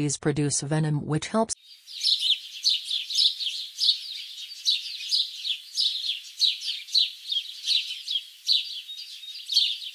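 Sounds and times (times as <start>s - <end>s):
small birds chirping: 1.6s - 9.9s.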